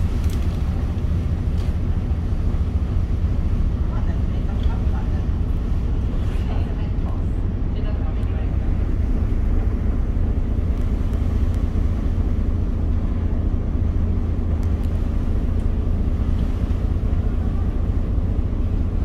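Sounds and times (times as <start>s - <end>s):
ferry engine rumbling: 0.0s - 19.0s.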